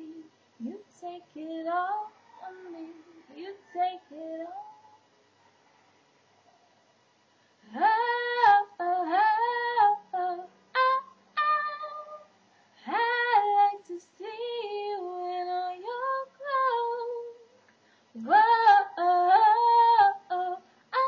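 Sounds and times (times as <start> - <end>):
woman singing a cappella: 0.0 - 4.8, 7.6 - 21.0.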